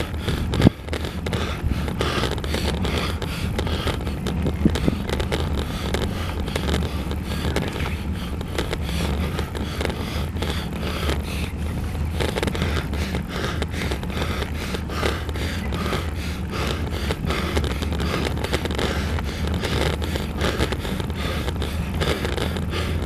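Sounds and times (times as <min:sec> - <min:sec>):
low rumble: 0:00.0 - 0:23.0
wind buffeting microphone: 0:00.0 - 0:23.0.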